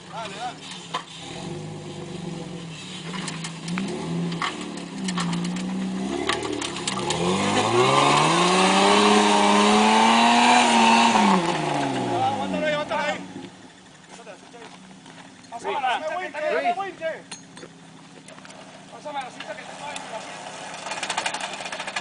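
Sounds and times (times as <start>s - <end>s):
engine pulling under load: 0.2s - 15.4s, 17.4s - 22.0s.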